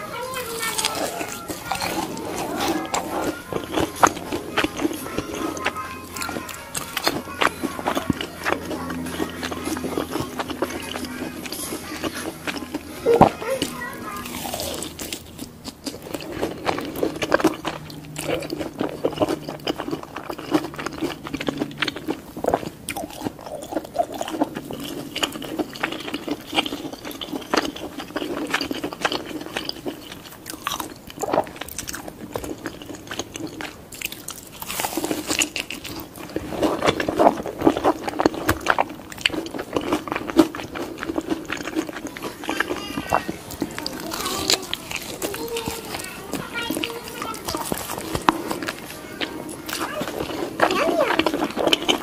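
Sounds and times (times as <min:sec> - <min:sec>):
toddler gnawing and sucking: 0:00.0 - 0:52.0.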